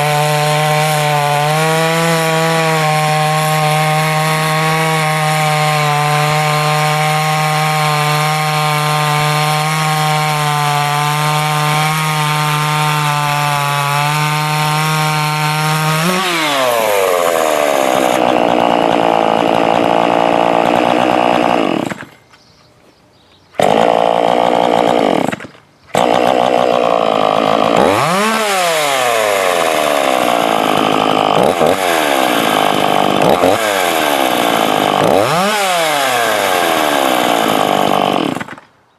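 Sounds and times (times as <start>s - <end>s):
chainsaw revving: 0.0s - 22.2s, 23.6s - 38.6s.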